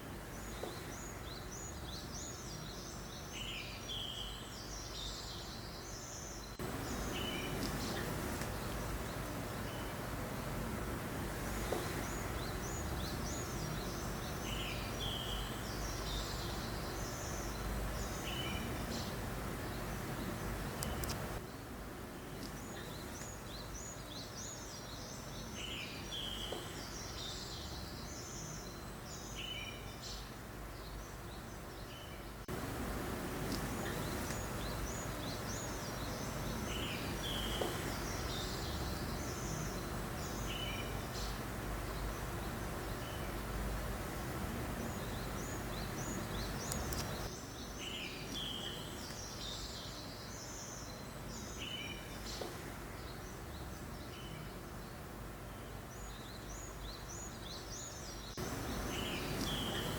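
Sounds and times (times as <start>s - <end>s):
breeze: 0.0s - 59.9s
small birds chirping: 0.0s - 59.9s.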